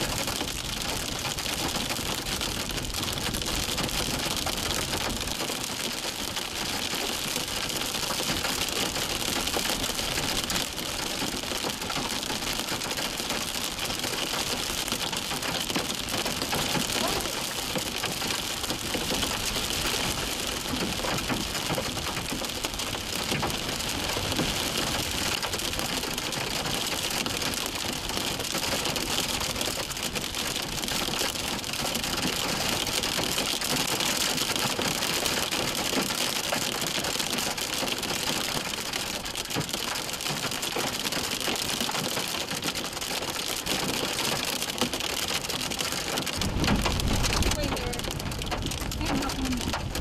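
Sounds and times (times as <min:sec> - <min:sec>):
hail clattering: 0:00.1 - 0:50.0.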